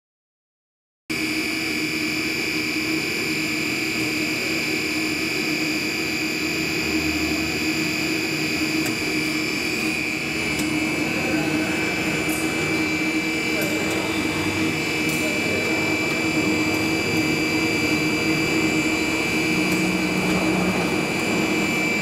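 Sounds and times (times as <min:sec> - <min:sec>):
machine humming with high tone: 0:01.1 - 0:22.0.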